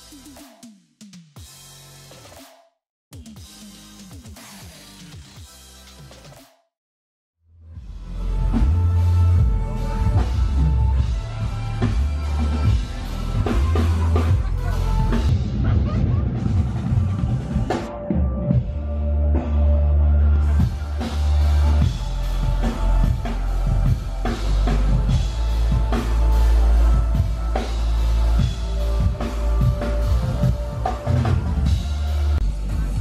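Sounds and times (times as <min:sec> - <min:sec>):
loud music with drums and bass: 0:00.0 - 0:06.6, 0:07.6 - 0:33.0.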